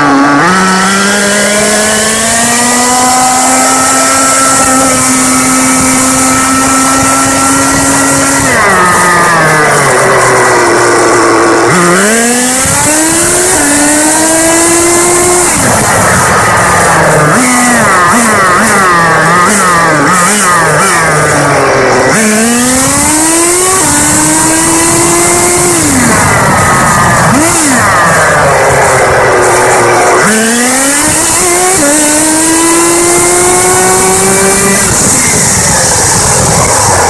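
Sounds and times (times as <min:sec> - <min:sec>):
rc car engine revving: 0:00.0 - 0:37.0.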